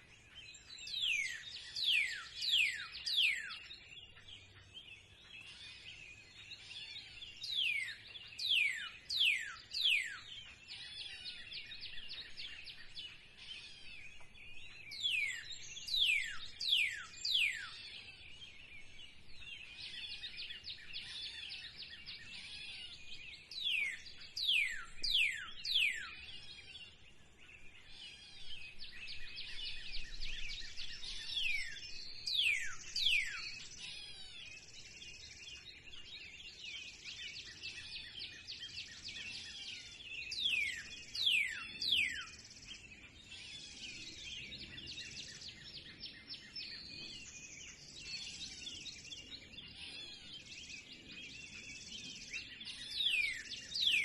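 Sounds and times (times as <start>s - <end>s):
bird song with downward-sliding notes: 0.0s - 54.0s
birds chirping and trilling: 0.0s - 54.0s.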